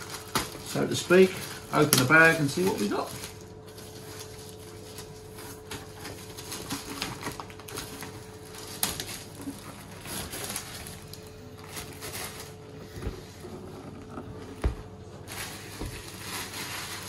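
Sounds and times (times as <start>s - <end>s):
plastic bag rustling and crinkling: 0.0s - 17.0s.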